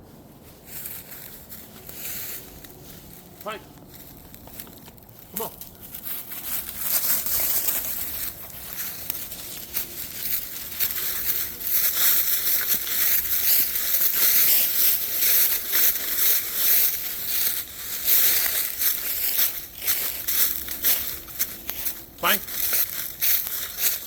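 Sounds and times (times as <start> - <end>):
footsteps crunching dry leaves: 0.0 - 24.0.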